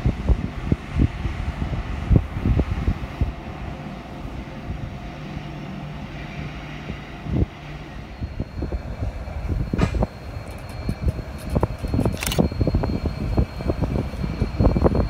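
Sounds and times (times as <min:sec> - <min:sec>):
wind buffeting microphone: 0:00.0 - 0:05.4, 0:06.4 - 0:15.0
train locomotives rumbling: 0:00.0 - 0:15.0.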